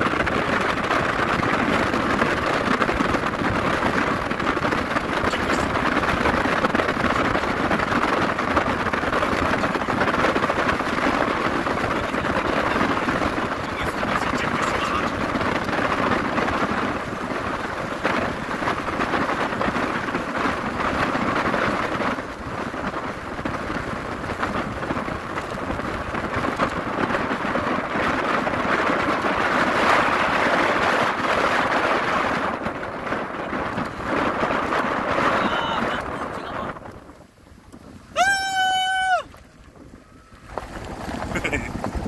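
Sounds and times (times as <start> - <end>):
wind and road noise in vehicle: 0.0 - 42.0.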